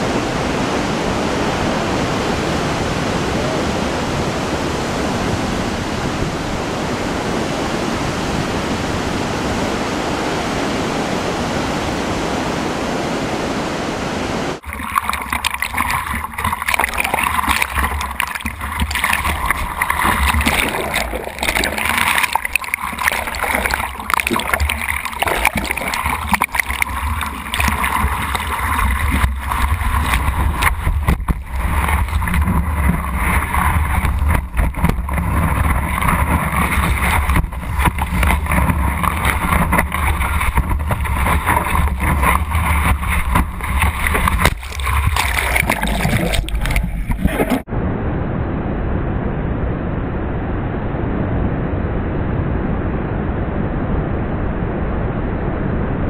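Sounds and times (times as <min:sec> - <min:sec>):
wind rumble on microphone: 0:00.0 - 0:14.6, 0:15.8 - 0:56.0
steady wash of surf: 0:00.0 - 0:46.8
water rushing and splashing: 0:00.0 - 0:47.7.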